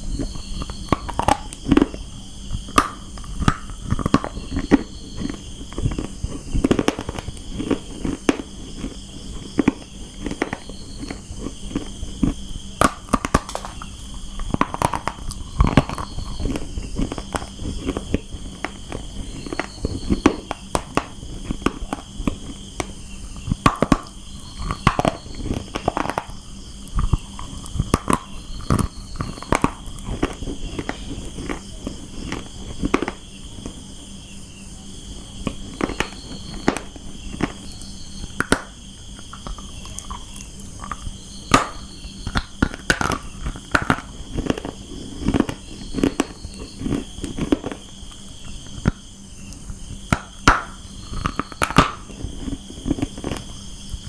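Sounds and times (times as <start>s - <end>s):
crunching and chewing: 0.0s - 54.0s.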